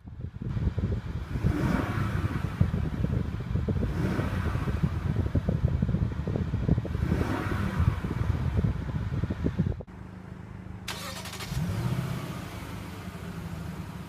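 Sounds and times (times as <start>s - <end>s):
car engine revving: 0.6s - 9.9s, 10.8s - 14.0s.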